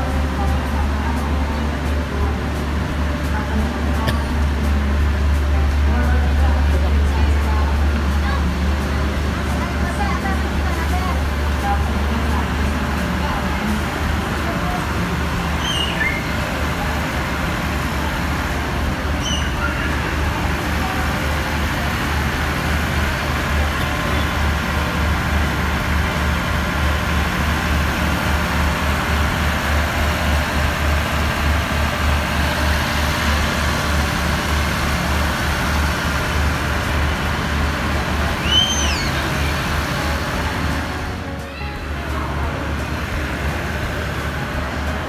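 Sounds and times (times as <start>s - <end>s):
diesel train engine idling: 0.0s - 45.0s.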